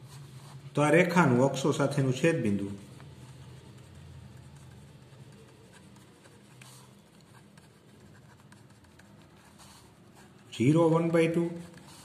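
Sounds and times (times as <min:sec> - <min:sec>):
pen scratching on paper: 0:02.4 - 0:12.0.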